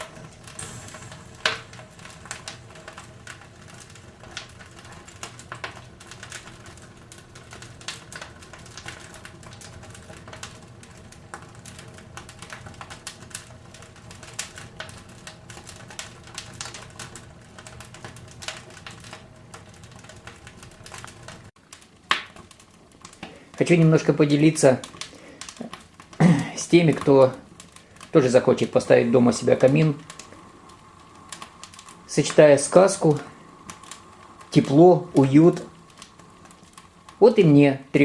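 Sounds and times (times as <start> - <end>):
faint steady hum: 0.0 - 38.0
firewood crackling and popping: 0.0 - 38.0.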